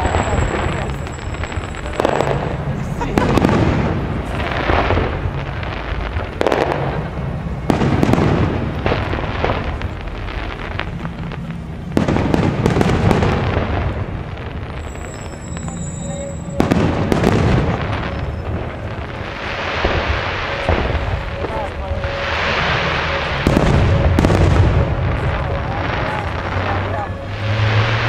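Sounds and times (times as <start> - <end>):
firework shells exploding: 0.0 - 28.0.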